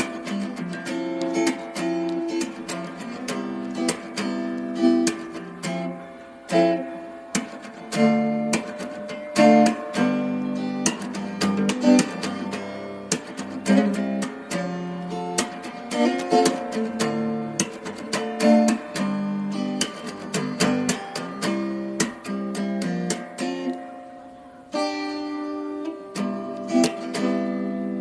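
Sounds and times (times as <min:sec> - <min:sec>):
acoustic guitar strumming chords: 0:00.0 - 0:28.0.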